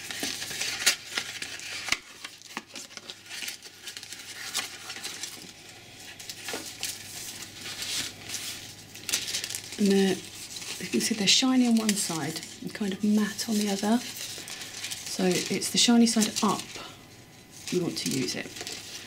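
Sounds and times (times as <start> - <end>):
card and foil rustling: 0.0 - 19.0.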